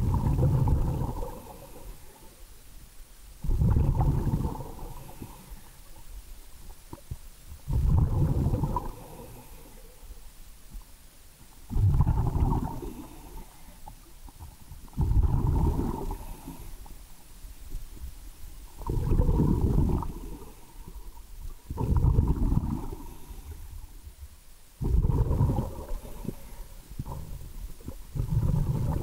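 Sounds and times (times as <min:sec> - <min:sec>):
underwater exhaled bubbles: 0:00.0 - 0:02.3, 0:03.4 - 0:10.2, 0:11.6 - 0:17.1, 0:17.7 - 0:24.0, 0:24.8 - 0:29.0.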